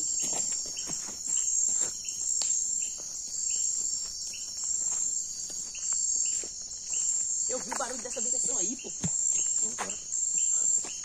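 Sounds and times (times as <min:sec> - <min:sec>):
crickets shrilling: 0:00.0 - 0:11.0
short repeated insect chirp: 0:00.0 - 0:11.0.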